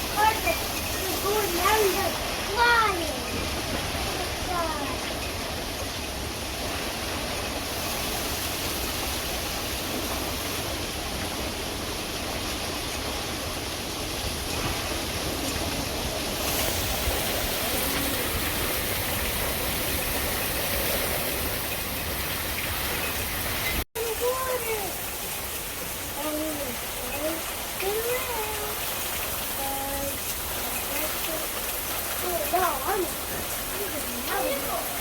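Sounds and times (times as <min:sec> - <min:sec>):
heavy rain: 0:00.0 - 0:35.0
wind: 0:00.0 - 0:35.0.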